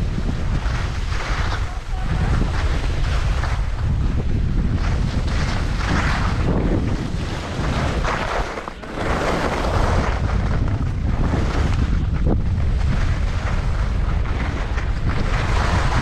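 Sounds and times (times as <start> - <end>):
skis scraping on snow: 0.0 - 16.0
wind buffeting microphone: 0.0 - 16.0.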